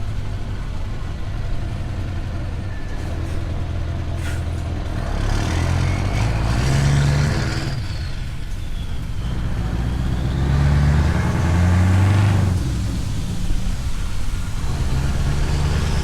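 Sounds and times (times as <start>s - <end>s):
diesel truck engine pulling: 0.0s - 16.0s.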